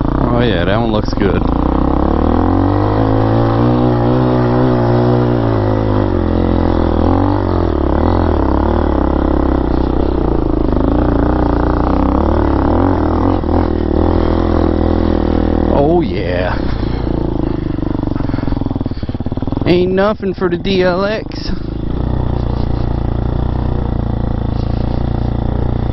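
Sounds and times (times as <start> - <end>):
motorcycle engine under load: 0.0 - 25.9.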